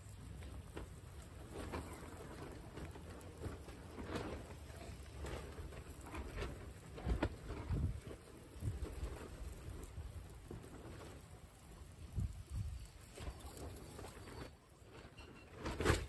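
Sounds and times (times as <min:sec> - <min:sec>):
guinea pigs chewing grass: 0:00.0 - 0:14.5
wind rumble on microphone: 0:00.0 - 0:14.5.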